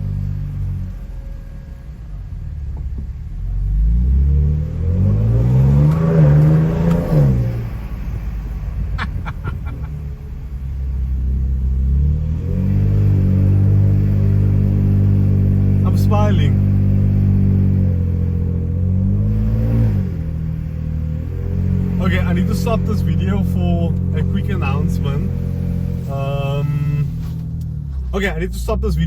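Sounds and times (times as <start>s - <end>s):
engine accelerating hard: 3.5s - 27.7s.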